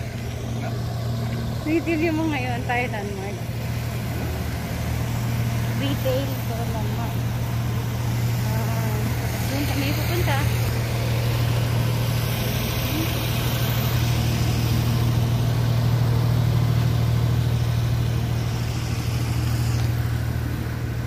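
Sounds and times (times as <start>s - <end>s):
constant low hum: 0.0s - 21.0s
highway traffic: 0.0s - 21.0s.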